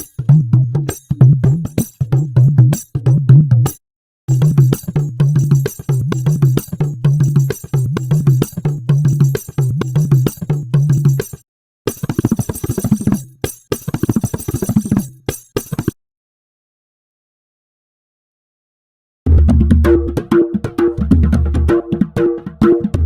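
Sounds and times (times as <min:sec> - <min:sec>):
drum strokes with bending tones: 0:00.0 - 0:16.0, 0:19.3 - 0:23.0
fast rhythmic drum pattern: 0:00.0 - 0:16.0, 0:19.3 - 0:23.0.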